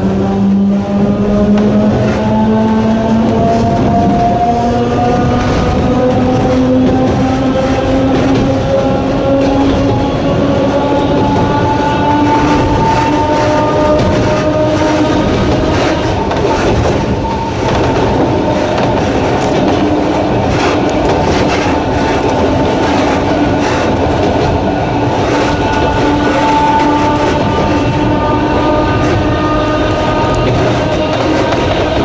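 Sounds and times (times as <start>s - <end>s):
electric train motor whine: 0.0s - 32.0s
wheels rumbling on rails: 0.0s - 32.0s.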